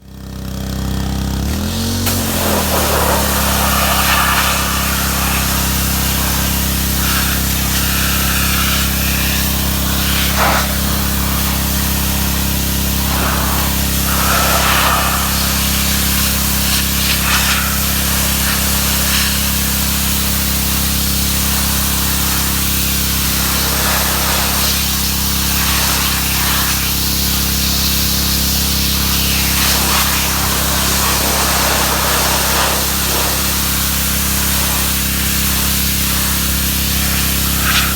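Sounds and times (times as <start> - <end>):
pressure washer spraying: 0.1 - 37.9.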